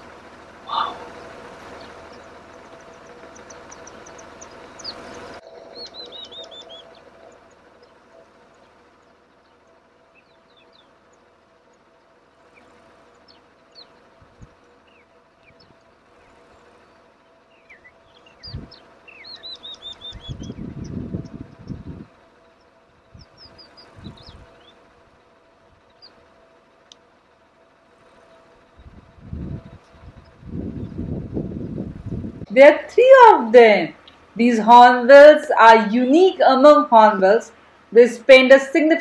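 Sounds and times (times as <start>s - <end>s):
small birds chirping: 0.0s - 39.0s
steady hum: 0.0s - 39.0s.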